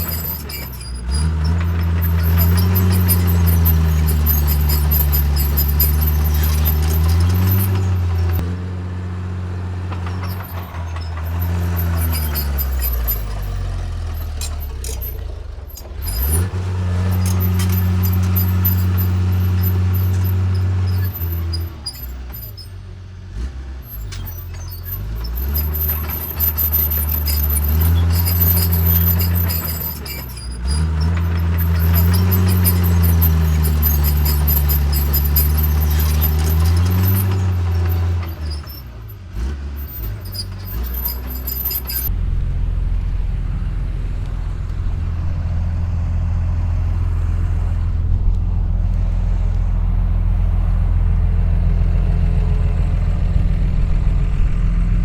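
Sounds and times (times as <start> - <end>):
diesel engine running steadily: 0.0 - 55.0
heavy diesel engine under load: 0.0 - 55.0.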